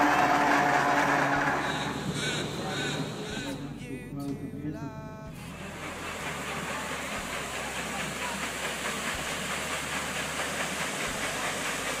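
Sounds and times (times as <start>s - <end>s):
paddle steamer rushing and hissing: 0.0s - 3.8s, 5.5s - 12.0s.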